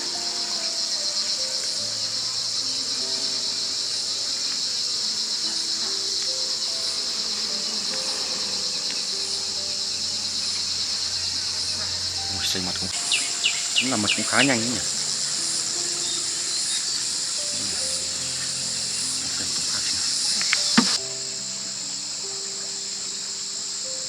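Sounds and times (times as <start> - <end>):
insects shrilling: 0.0 - 24.0
slow soft melody: 0.0 - 24.0.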